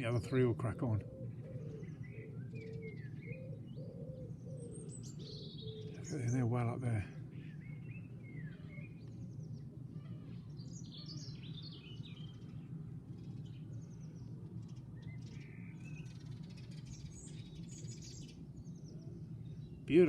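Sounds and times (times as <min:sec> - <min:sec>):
low background hum: 0:00.0 - 0:20.0
small birds chirping: 0:00.0 - 0:20.0.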